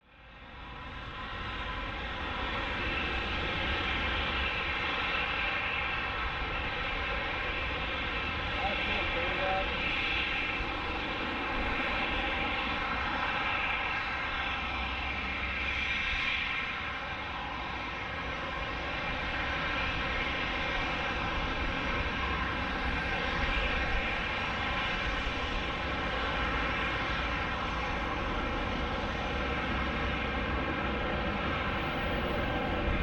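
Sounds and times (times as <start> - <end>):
jet engines whining: 2.7 - 16.9, 17.5 - 33.0.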